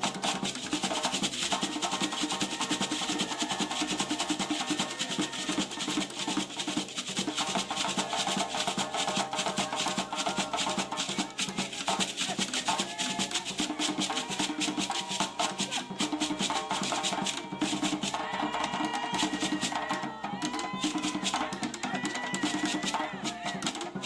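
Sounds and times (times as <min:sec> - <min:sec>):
fast drumming: 0:00.0 - 0:24.0
pitched percussion tones: 0:00.0 - 0:24.0.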